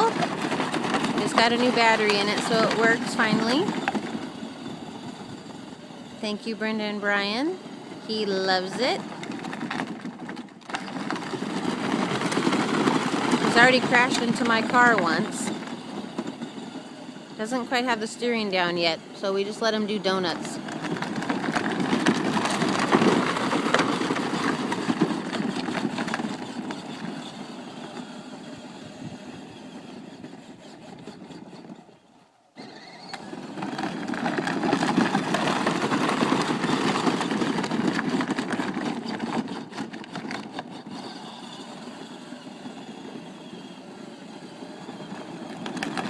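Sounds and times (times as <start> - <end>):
toy truck electric motor whirring: 0.0 - 46.0.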